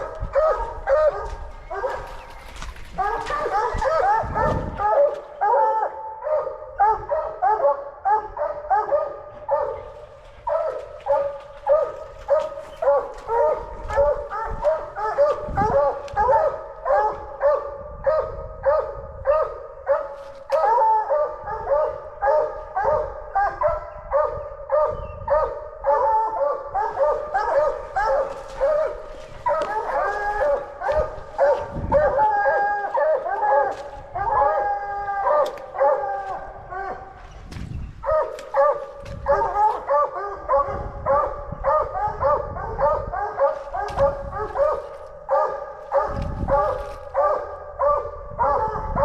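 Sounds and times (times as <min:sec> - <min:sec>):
hounds barking: 0:00.0 - 0:49.0.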